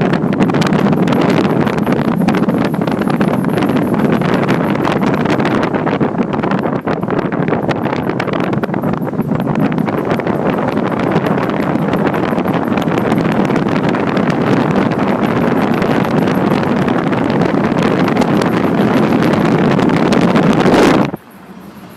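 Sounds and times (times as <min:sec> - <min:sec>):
wind on microphone: 0:00.0 - 0:21.9.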